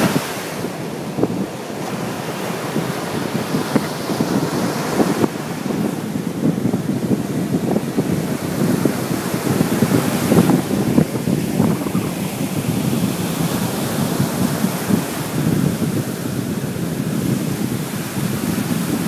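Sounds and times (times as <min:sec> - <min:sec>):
sea surf breaking on beach: 0:00.0 - 0:19.0
wind buffeting microphone: 0:00.0 - 0:19.0.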